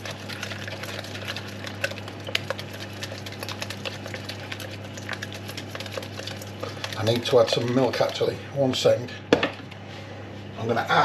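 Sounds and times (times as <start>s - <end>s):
utensil beating eggs in a jug: 0.0s - 9.1s
steady low hum: 0.0s - 11.0s.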